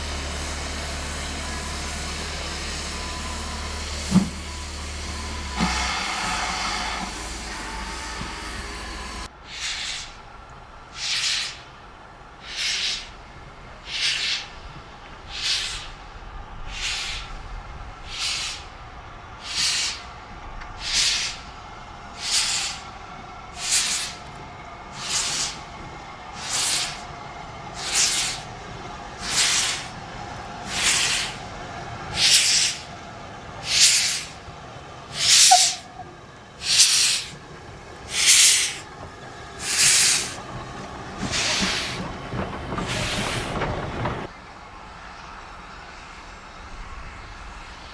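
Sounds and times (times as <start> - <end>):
steam locomotive chuffing: 0.0 - 47.9.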